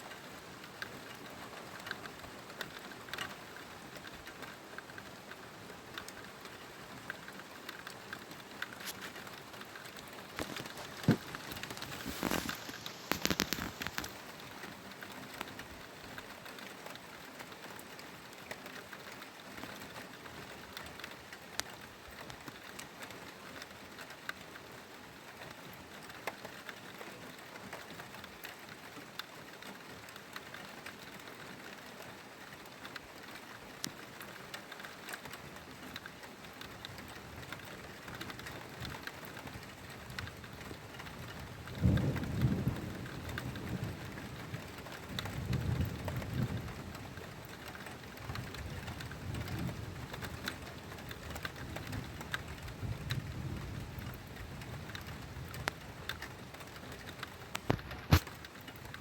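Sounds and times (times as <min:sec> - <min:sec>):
raindrops ticking on surfaces: 0:00.0 - 0:59.0
steady rain: 0:00.0 - 0:59.0.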